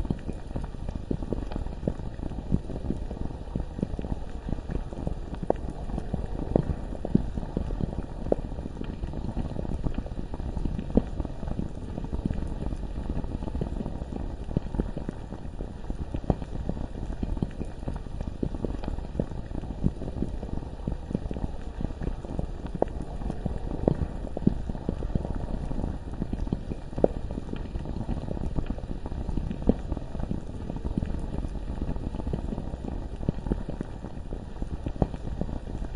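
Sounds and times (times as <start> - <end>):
lava bubbling and popping: 0.0 - 35.9.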